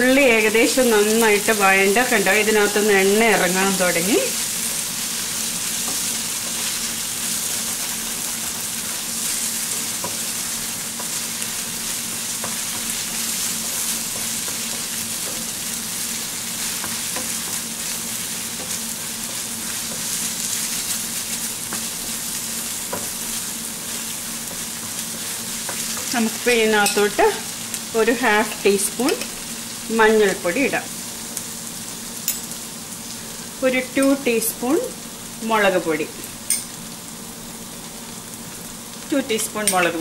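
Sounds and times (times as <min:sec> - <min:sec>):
onions sizzling in oil: 0:00.0 - 0:40.0.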